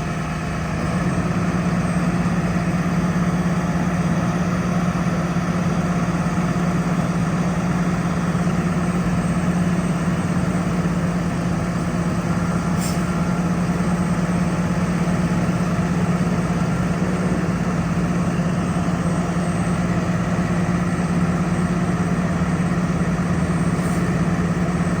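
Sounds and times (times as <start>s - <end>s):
diesel truck engine droning: 0.0s - 25.0s.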